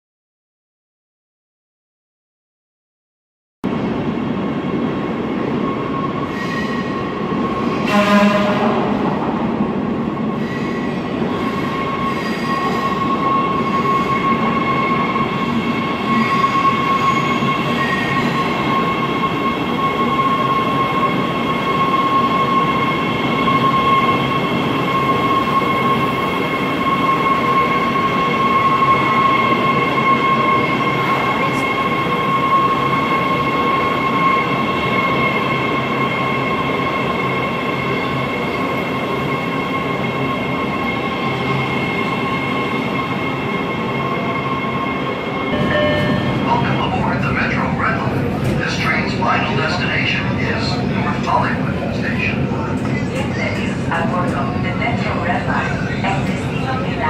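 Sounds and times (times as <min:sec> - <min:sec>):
train rumbling on rails: 0:03.6 - 0:57.0
high-pitched train whine: 0:03.7 - 0:57.0.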